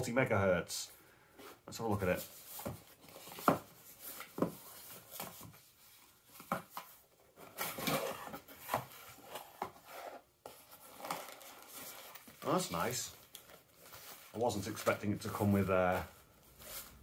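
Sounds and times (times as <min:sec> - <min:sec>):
cardboard scraping rustle: 0:01.4 - 0:17.0.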